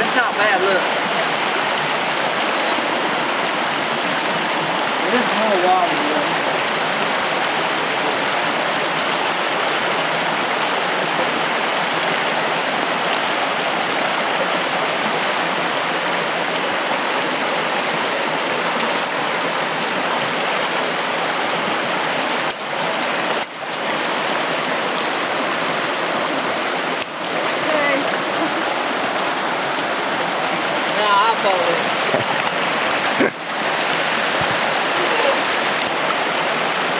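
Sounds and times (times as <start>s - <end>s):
creek rushing over stones: 0.0s - 36.9s.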